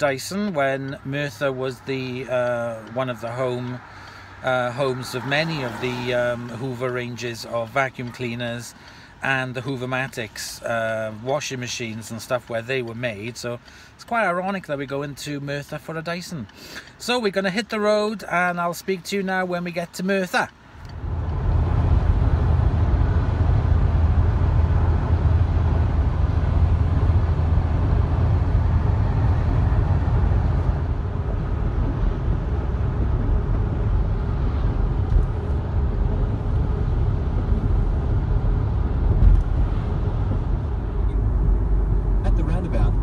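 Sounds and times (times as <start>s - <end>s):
car driving heard from inside: 0.0s - 18.3s, 20.5s - 43.0s.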